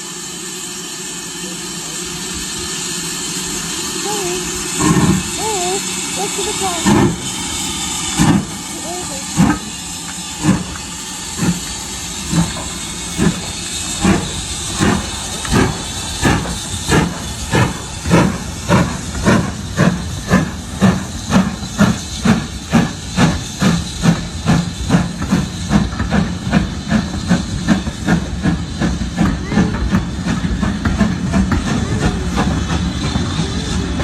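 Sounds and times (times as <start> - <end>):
steam hissing: 0.0 - 34.0
steam locomotive chuffing: 0.0 - 34.0.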